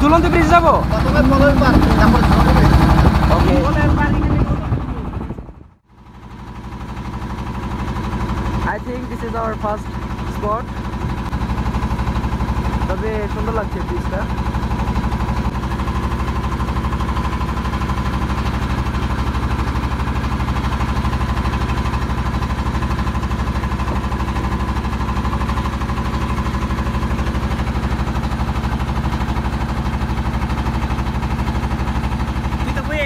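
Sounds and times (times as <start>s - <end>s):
boat engine chugging: 0.0s - 33.0s.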